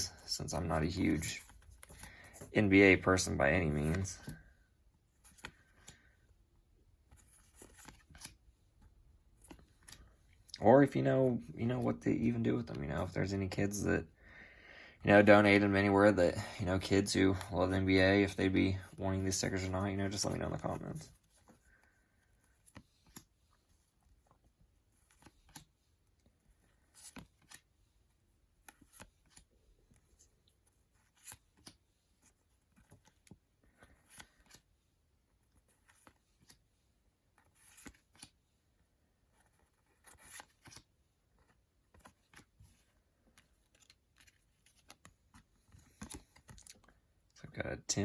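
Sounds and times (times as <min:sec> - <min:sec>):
paper cards rustling and clicking: 0:00.1 - 0:13.6, 0:16.7 - 0:47.3.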